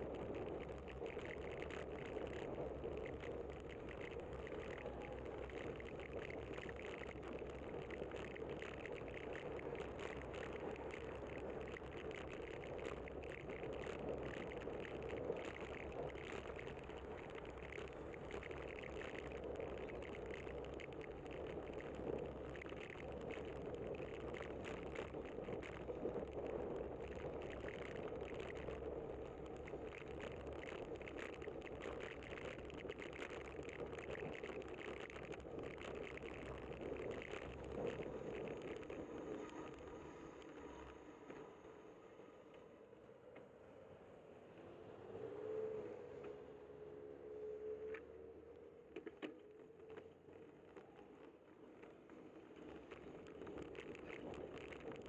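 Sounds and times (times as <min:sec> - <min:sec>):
small ticks and rattles: 0:00.0 - 0:41.0, 0:49.0 - 0:55.0
bicycle road and wind noise: 0:00.0 - 0:55.0.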